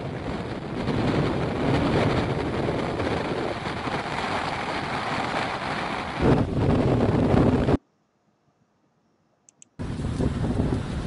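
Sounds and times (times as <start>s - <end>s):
wind gusting over microphone: 0.0s - 7.8s, 9.8s - 11.0s.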